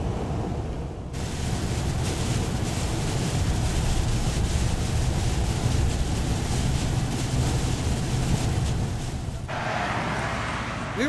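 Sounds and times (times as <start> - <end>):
road and wind noise in vehicle: 0.0 - 11.0.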